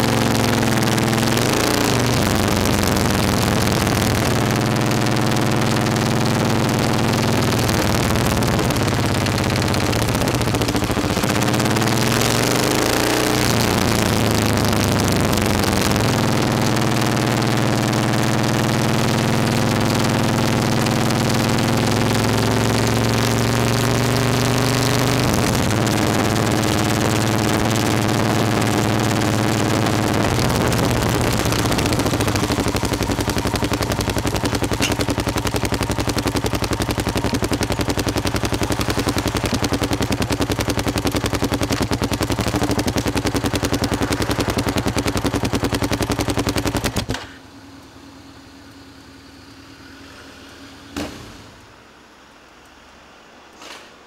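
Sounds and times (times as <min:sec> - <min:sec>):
motorcycle engine: 0:00.0 - 0:52.2.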